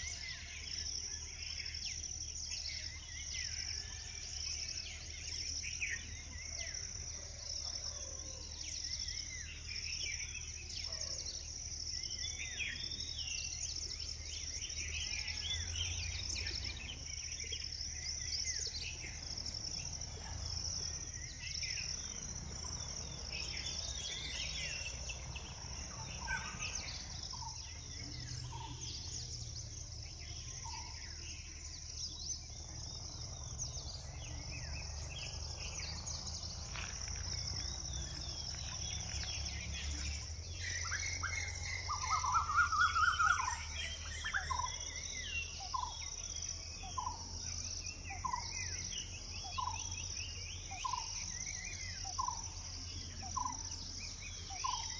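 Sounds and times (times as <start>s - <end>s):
birds calling and chirping: 0.0s - 54.9s
high insect drone: 0.0s - 54.9s.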